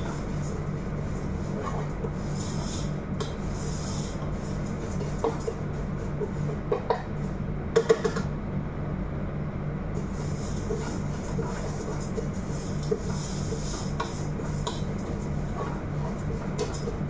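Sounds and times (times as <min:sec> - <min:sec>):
gas stove hum: 0:00.0 - 0:17.0.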